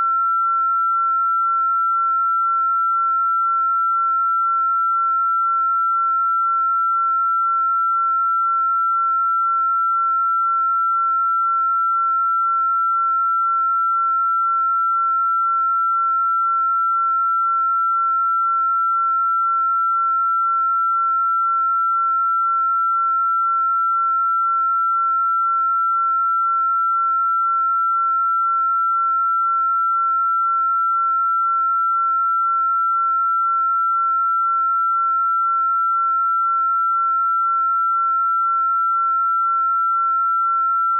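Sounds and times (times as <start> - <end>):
electronic sine tone: 0.0 - 40.9.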